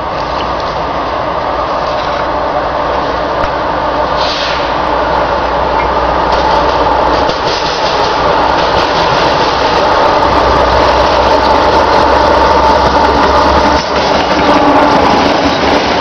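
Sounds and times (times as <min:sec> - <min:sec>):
diesel locomotive passing: 0:00.0 - 0:16.0.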